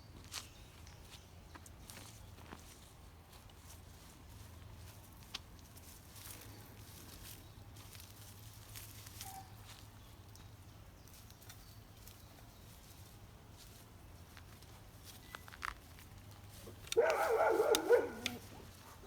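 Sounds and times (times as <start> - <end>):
faint footsteps: 0.2 - 19.0
light clicks and scuffs: 0.2 - 19.0.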